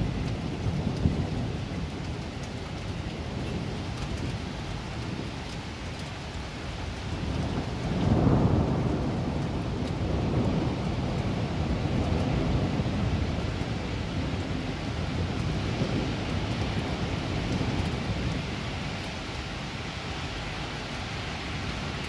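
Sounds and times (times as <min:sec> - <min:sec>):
heavy rain: 0:00.0 - 0:22.0
thunder rumbling: 0:00.0 - 0:22.0.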